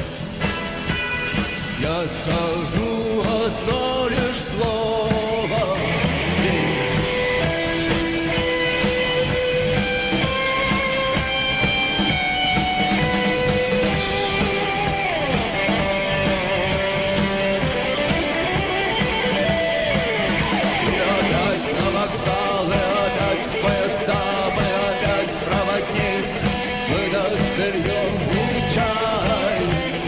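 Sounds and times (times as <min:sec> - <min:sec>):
electric guitar melody: 0:00.0 - 0:03.8, 0:04.6 - 0:30.0
bass: 0:00.0 - 0:30.0
drums: 0:00.0 - 0:30.0.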